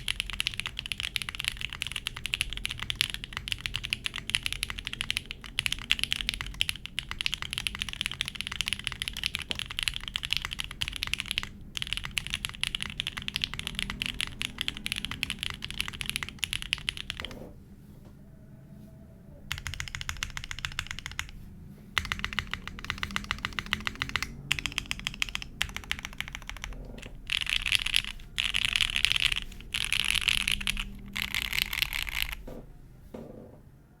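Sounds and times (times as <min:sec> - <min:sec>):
mechanical keyboard typing: 0:00.0 - 0:17.5, 0:19.5 - 0:21.4, 0:22.0 - 0:32.5.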